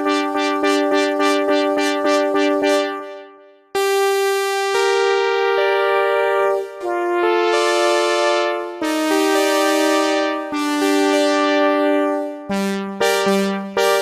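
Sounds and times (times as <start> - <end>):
plucky synthesizer chords: 0.0 - 14.0.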